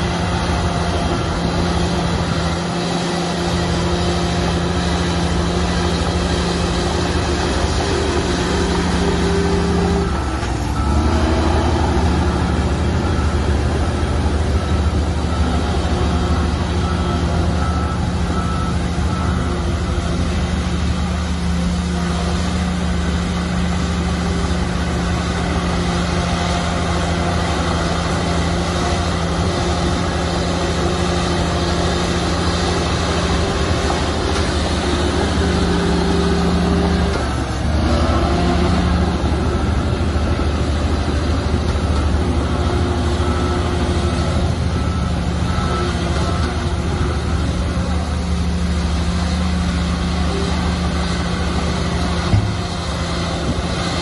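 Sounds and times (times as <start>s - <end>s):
heavy diesel machinery running: 0.0s - 54.0s
reversing alarm beeping: 0.0s - 54.0s.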